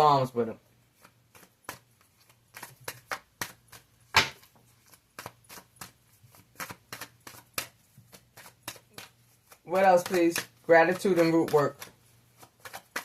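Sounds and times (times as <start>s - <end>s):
cards being shuffled: 0.8s - 13.0s.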